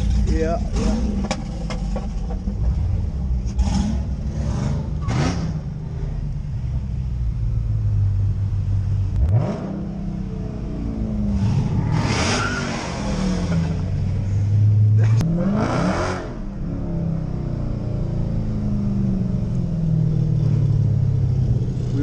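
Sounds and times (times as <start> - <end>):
car engines accelerating: 0.0 - 22.0.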